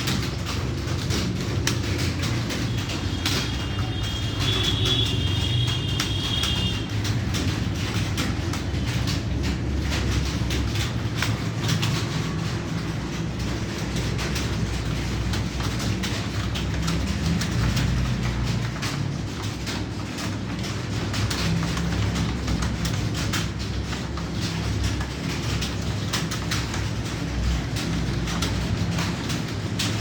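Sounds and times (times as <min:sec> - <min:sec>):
keyboard typing: 0:00.0 - 0:30.0.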